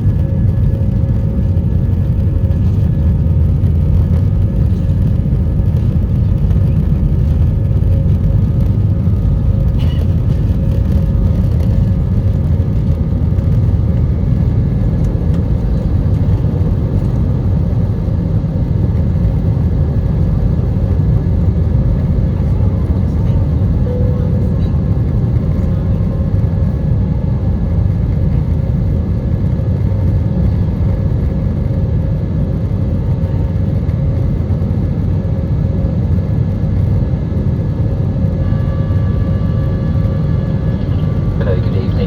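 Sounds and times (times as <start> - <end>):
aircraft cabin engine roar: 0.0 - 42.0.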